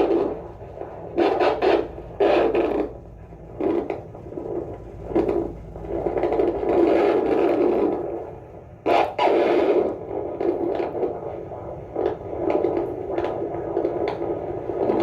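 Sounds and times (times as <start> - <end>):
scratchy doppler speaker noise: 0.0 - 15.0.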